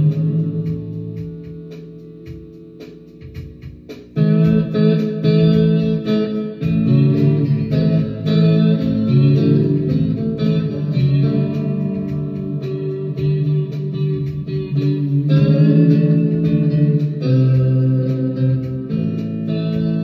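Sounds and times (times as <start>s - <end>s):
electric slide guitar: 0.0s - 2.8s, 4.1s - 20.0s.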